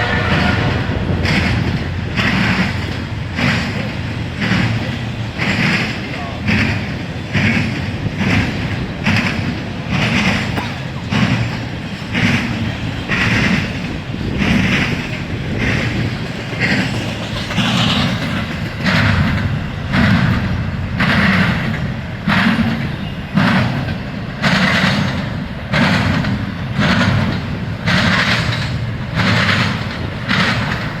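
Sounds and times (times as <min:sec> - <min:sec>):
freight train wheels clattering: 0:00.0 - 0:31.0
low train rumble: 0:00.0 - 0:31.0.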